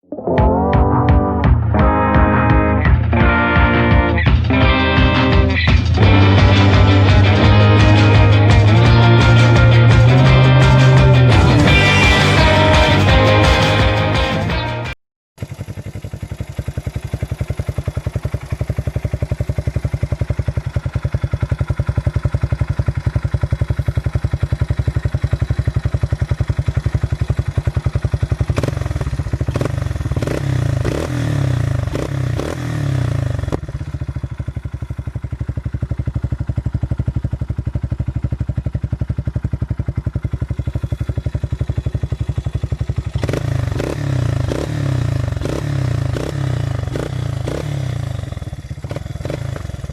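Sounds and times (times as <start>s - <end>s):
quad engine running: 0.7s - 49.9s.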